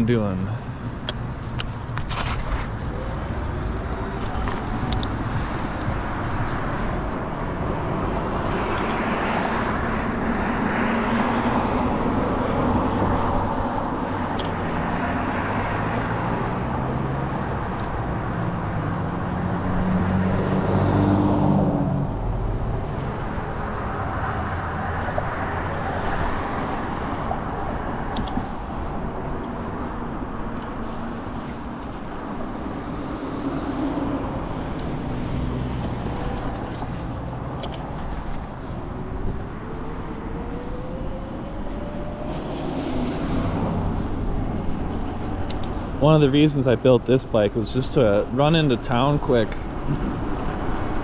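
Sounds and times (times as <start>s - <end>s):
cars passing: 0.0s - 51.0s
low engine hum: 0.0s - 51.0s
road traffic rush: 0.0s - 51.0s.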